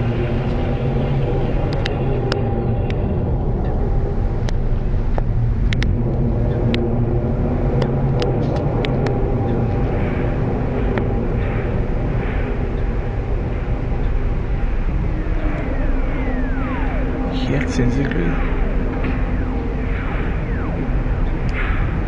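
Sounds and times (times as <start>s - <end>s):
low groaning drone: 0.0s - 22.0s.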